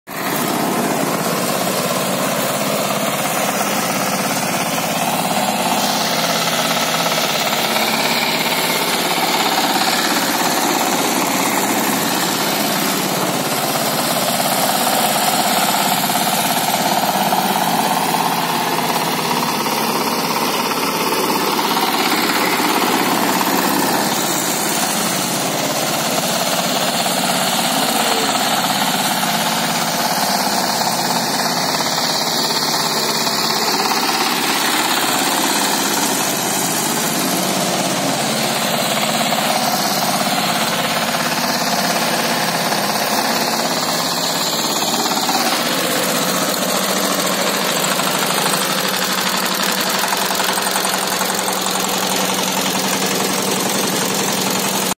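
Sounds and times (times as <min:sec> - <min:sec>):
diesel engine clattering: 0:00.1 - 0:54.9.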